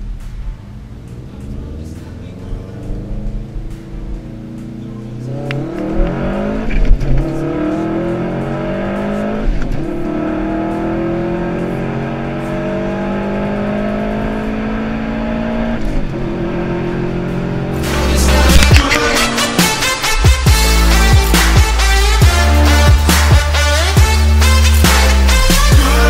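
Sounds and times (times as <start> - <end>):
car engine accelerating through gears: 0.0 - 26.0.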